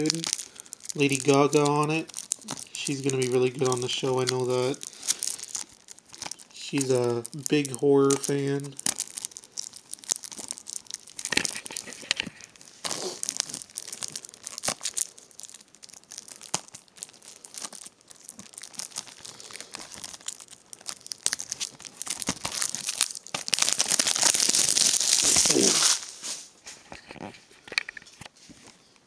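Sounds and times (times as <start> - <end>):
plastic shrink-wrap tearing: 0.0 - 26.5
plastic crinkling: 0.0 - 29.0.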